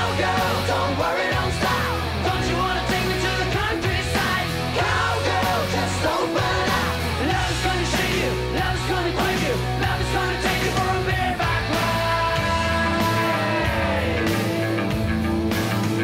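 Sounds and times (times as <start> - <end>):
man singing: 0.0 - 14.6
bass: 0.0 - 16.0
distorted electric guitar: 0.0 - 16.0
drums: 0.0 - 16.0
hard rock song: 0.0 - 16.0.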